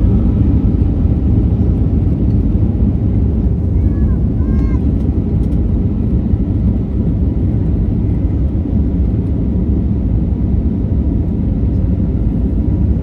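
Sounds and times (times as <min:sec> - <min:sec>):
airplane engines rumbling in cabin: 0:00.0 - 0:13.0.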